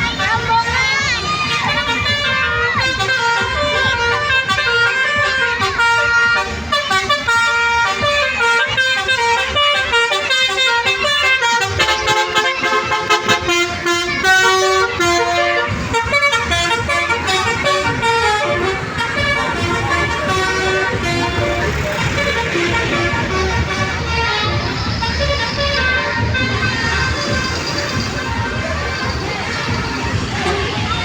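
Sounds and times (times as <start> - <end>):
musical bus air horns: 0.0 - 31.0.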